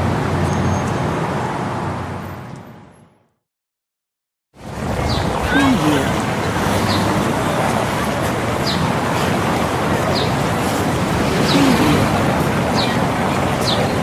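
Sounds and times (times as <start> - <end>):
traffic noise: 0.0 - 3.4, 4.6 - 14.0.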